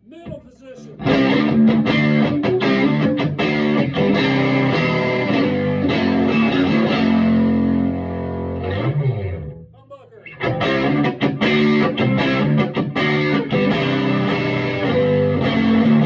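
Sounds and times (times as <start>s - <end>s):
electric guitar strumming and picking: 0.9s - 16.0s.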